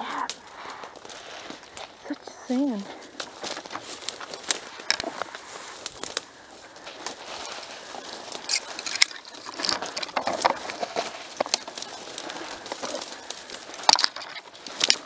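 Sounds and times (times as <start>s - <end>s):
brush rustling: 0.0s - 15.0s
twigs snapping: 0.0s - 15.0s.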